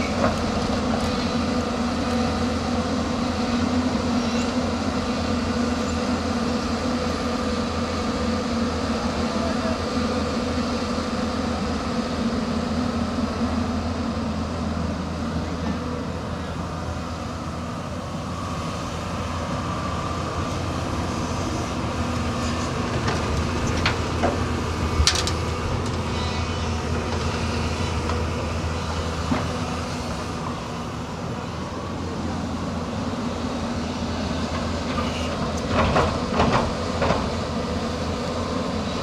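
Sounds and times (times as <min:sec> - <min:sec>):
excavator engine running: 0:00.0 - 0:39.0.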